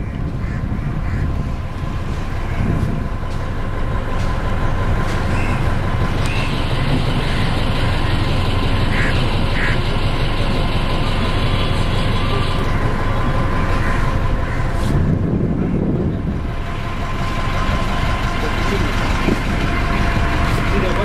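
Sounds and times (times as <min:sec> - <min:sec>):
boat engine low drone: 0:00.0 - 0:21.0
thin steady whine: 0:01.4 - 0:21.0.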